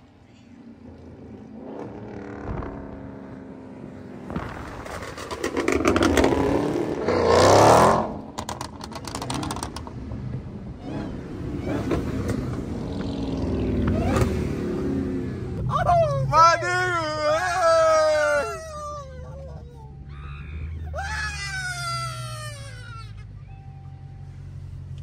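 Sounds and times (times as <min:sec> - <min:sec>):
road noise: 0:00.0 - 0:25.0
car engine accelerating hard: 0:00.6 - 0:23.2.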